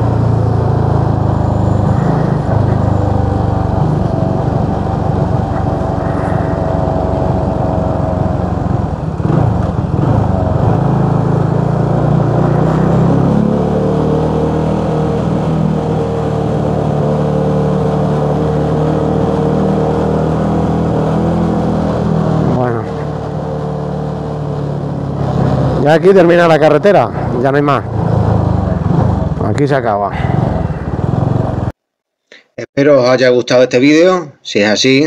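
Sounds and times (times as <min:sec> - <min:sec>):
motorcycle engine running: 0:00.0 - 0:31.8.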